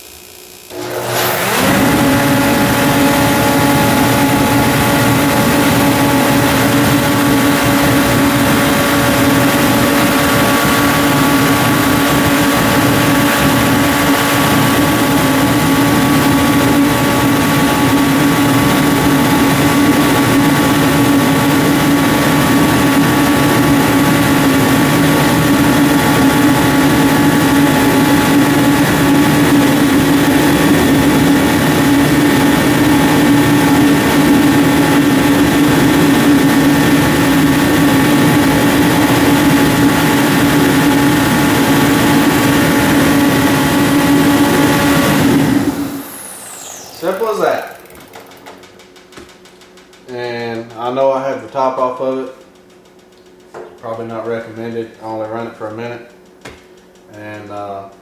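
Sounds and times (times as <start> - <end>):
heater fan motor hum: 0.0 - 58.0
high steady whines: 0.0 - 58.0.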